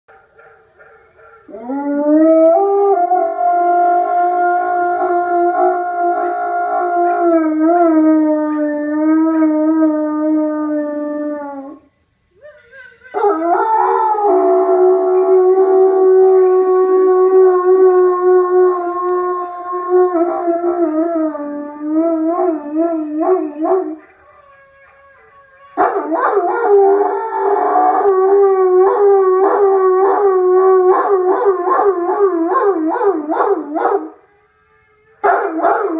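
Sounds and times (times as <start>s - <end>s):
dog howling: 1.2s - 11.9s, 13.1s - 35.9s.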